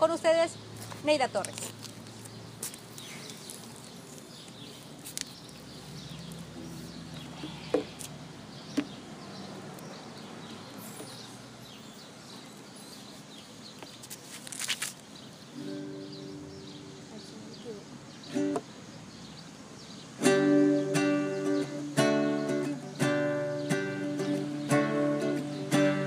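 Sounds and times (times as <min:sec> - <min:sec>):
outdoor park background: 0:00.0 - 0:26.0.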